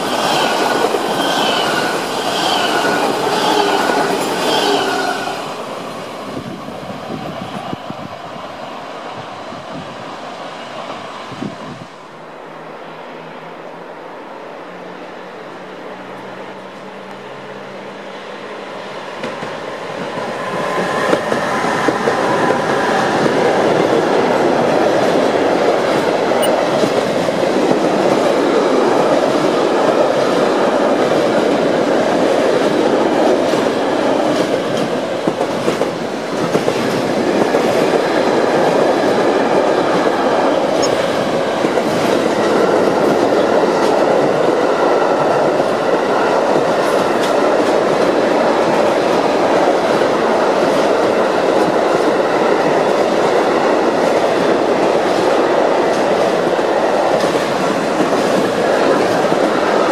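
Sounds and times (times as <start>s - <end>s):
freight train passing close: 0.0s - 59.9s.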